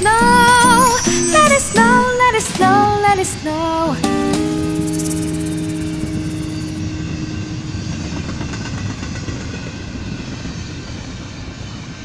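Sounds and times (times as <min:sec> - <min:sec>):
train rumbling and rattling on rails: 0:00.0 - 0:12.0.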